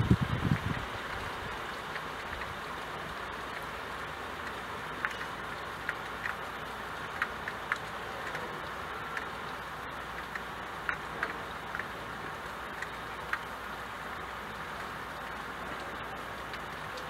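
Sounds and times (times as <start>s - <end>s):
rain on a window: 0.0s - 17.0s
raindrops ticking on glass: 0.0s - 17.0s.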